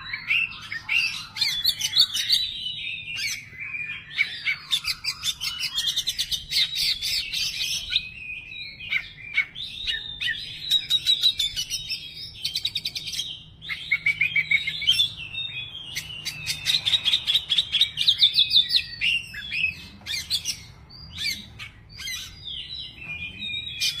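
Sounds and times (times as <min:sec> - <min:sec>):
songbird singing with trills: 0:00.0 - 0:24.0.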